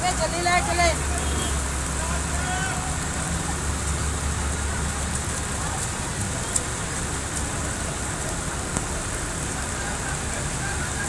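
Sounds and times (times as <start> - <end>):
rain on a flooded road: 0.0 - 11.0.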